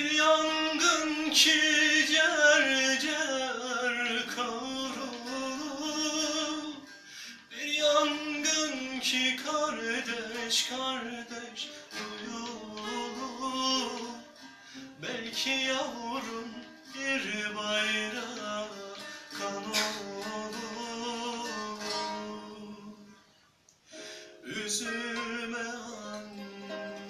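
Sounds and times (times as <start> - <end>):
man singing: 0.0 - 23.2, 24.4 - 27.0
plucked saz: 0.0 - 23.3, 24.0 - 27.0
strummed acoustic guitar: 0.0 - 27.0.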